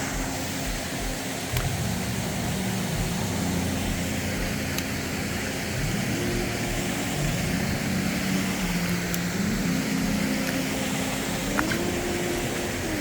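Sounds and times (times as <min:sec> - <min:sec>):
low sliding drone: 0:00.0 - 0:13.0
river water rushing: 0:00.0 - 0:13.0.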